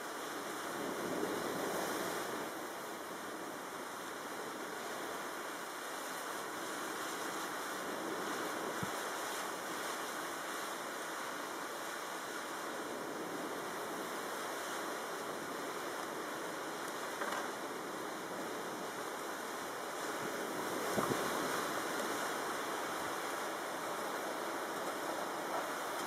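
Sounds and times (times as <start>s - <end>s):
choppy water rushing: 0.0s - 26.0s
strong wind: 0.0s - 26.0s.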